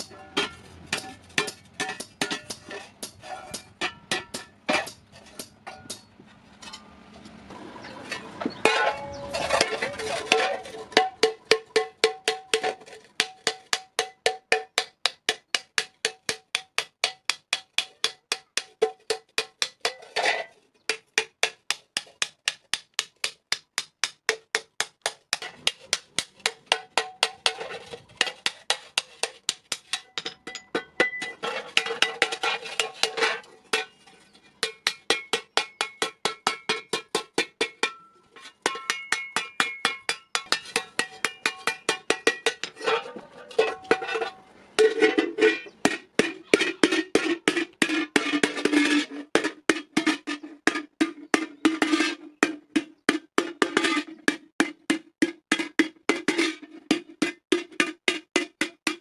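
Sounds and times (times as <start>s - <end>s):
hammer beating metal plate on anvil: 0.0s - 6.1s, 8.6s - 20.3s, 20.9s - 34.0s, 34.6s - 51.6s.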